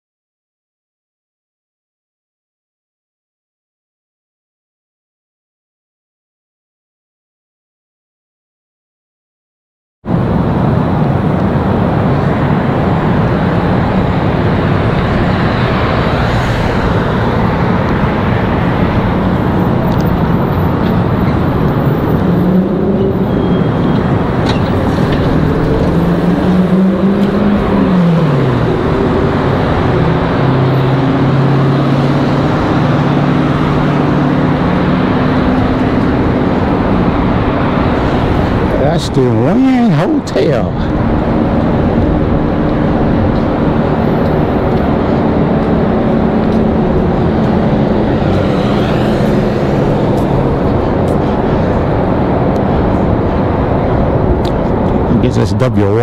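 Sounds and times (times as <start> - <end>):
street traffic passing: 10.1 - 56.0
engine revving: 10.5 - 56.0.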